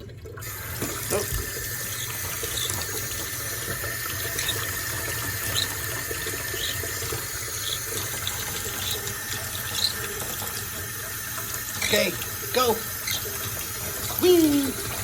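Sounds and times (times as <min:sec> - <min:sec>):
tap water running into sink: 0:00.0 - 0:15.0.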